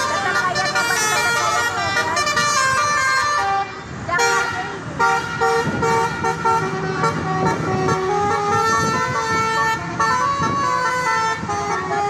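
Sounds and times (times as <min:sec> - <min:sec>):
bus engine running: 0:00.0 - 0:12.0
bus horn playing multi-tone tune: 0:00.0 - 0:12.0.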